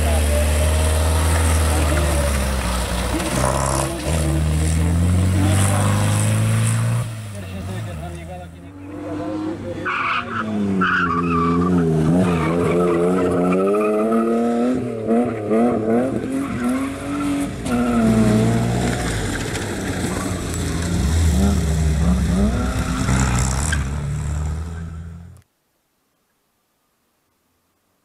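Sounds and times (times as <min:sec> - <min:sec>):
rally car engine revving: 0:00.0 - 0:25.4.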